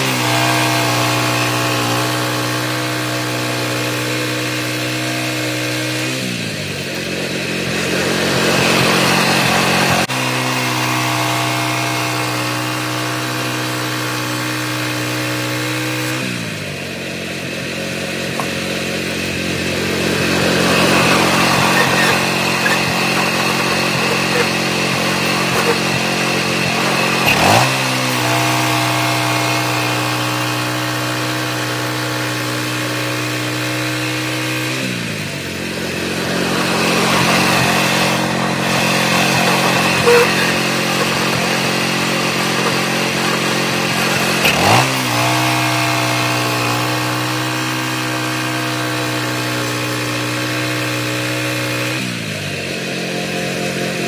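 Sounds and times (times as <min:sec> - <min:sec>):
band saw cutting wood: 0:00.0 - 0:54.0
sawmill engine running: 0:00.0 - 0:54.0.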